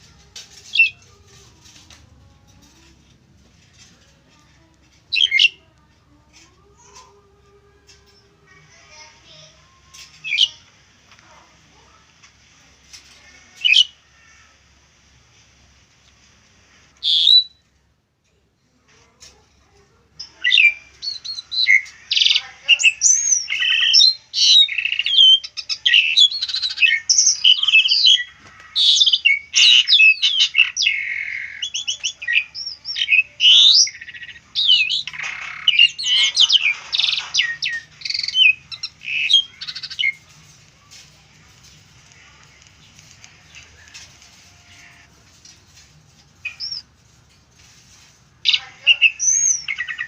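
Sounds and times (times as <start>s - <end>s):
starling singing: 0.0s - 10.8s, 13.2s - 14.4s, 17.0s - 17.6s, 20.2s - 47.0s, 47.6s - 50.0s.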